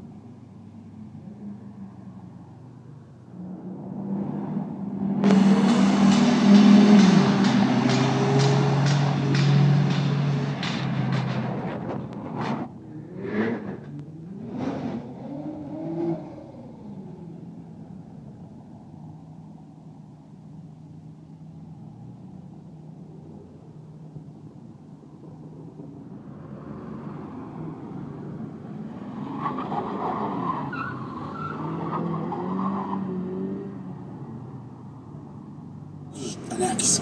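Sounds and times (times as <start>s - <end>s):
car engines running: 0.0s - 37.0s
car revving and pulling away: 0.2s - 19.8s, 25.2s - 37.0s.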